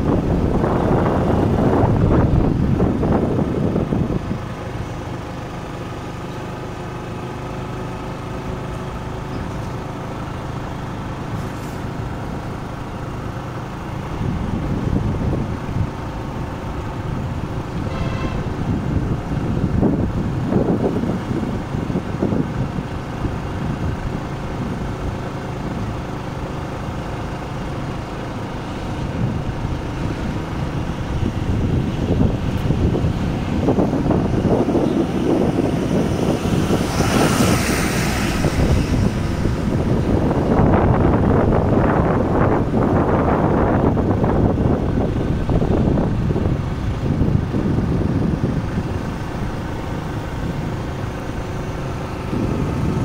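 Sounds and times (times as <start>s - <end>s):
wind on microphone: 0.0s - 5.6s, 8.7s - 53.0s
vehicle engine and road noise: 0.0s - 53.0s.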